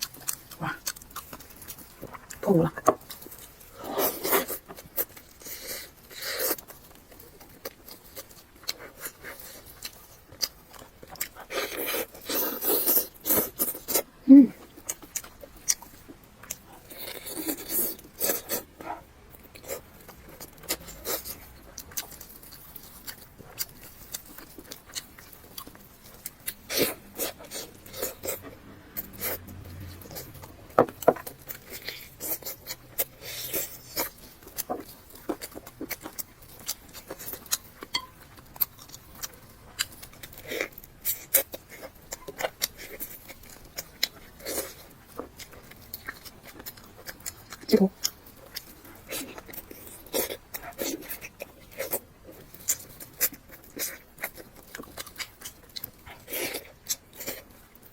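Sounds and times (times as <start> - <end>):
person chewing and crunching food: 0.0 - 57.9.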